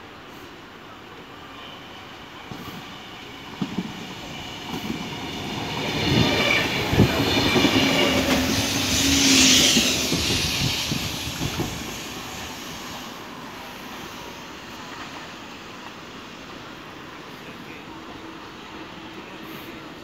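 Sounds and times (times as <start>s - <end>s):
electric train passing: 0.1s - 20.0s.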